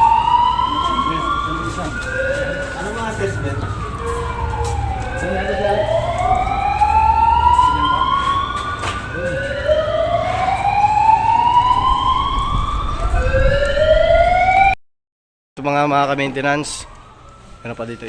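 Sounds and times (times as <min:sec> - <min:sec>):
sirens wailing: 0:00.0 - 0:14.8, 0:15.6 - 0:18.0.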